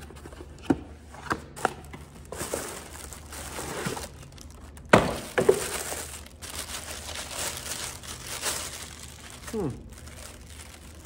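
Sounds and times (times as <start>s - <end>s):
cardboard and plastic packaging rustling: 0.0s - 11.0s.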